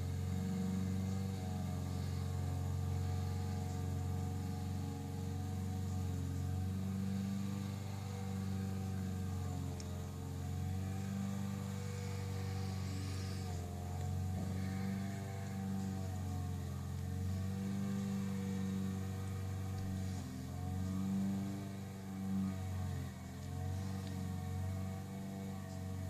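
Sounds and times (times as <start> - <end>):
lawnmower engine running: 0.0 - 26.0.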